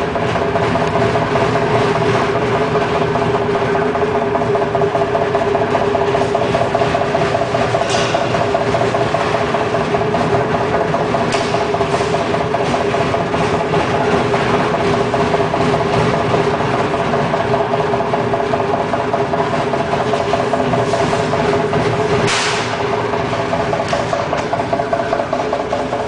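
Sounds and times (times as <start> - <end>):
slicer motor humming and rattling: 0.0 - 26.0.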